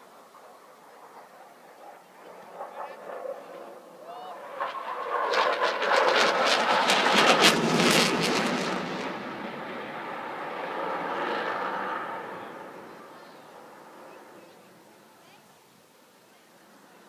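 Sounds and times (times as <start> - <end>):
jet engines roaring past: 0.0 - 15.2.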